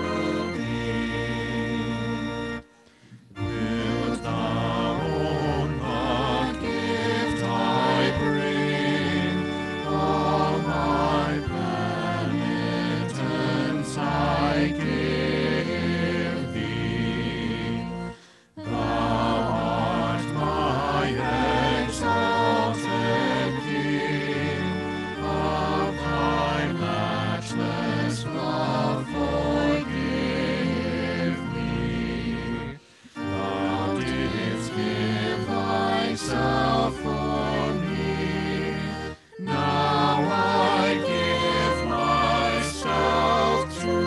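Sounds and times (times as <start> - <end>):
vocal group singing: 0.0 - 2.4, 3.2 - 44.0.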